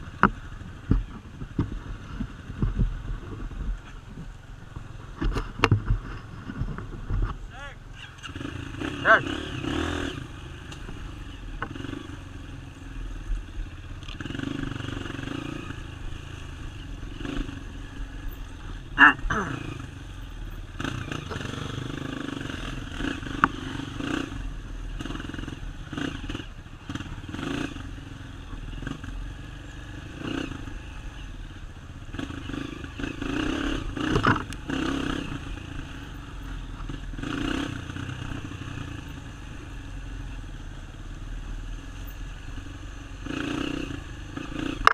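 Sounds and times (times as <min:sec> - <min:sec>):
dirt bike engine: 0:00.0 - 0:44.9.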